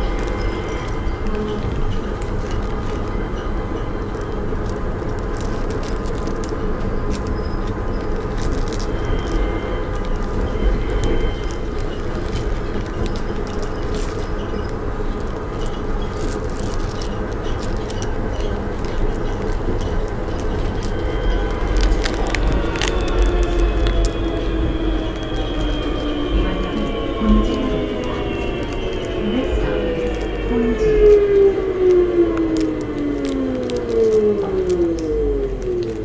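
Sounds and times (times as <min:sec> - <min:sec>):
faint whine: 0:00.0 - 0:36.0
train rumble: 0:00.0 - 0:36.0.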